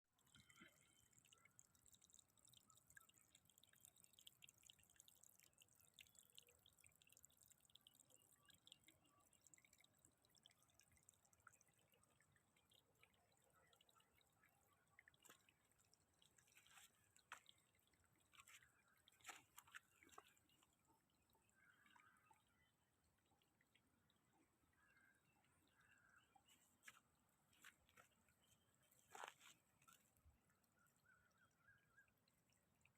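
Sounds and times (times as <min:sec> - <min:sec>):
water dripping and trickling: 0:00.1 - 0:32.9.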